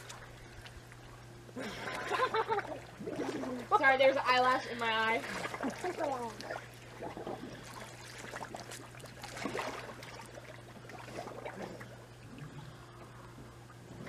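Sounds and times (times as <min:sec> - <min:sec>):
steady low hum: 0:00.0 - 0:14.0
water lapping in a pool: 0:00.0 - 0:14.0.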